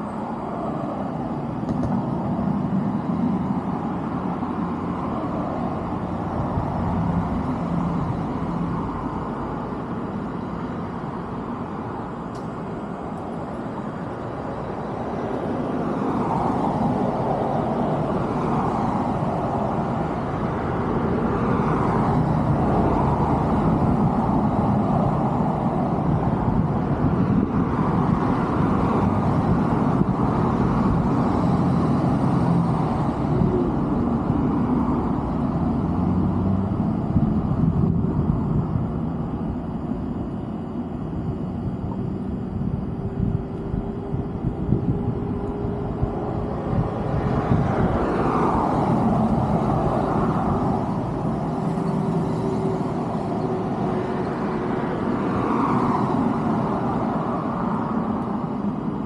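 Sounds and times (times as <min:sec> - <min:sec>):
distant vehicle rumble: 0:00.0 - 0:59.0.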